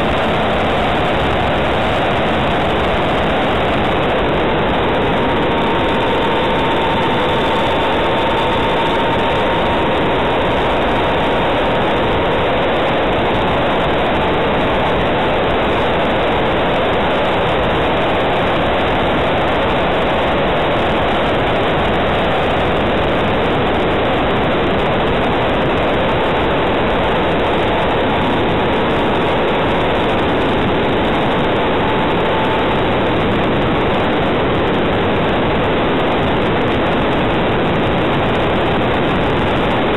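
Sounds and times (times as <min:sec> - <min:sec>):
faint whine: 0:00.0 - 0:39.9
rushing airflow: 0:00.0 - 0:39.9.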